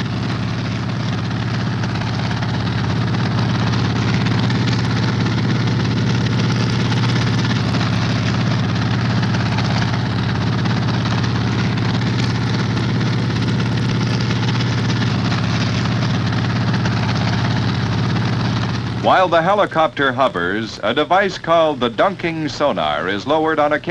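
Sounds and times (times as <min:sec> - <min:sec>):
helicopter engine and rotor: 0:00.0 - 0:23.9.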